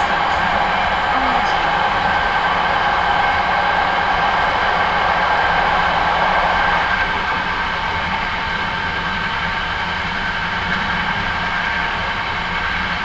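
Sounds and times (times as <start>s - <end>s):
train high whine: 0.0s - 13.0s
train wheels rumbling on rail: 0.0s - 13.0s.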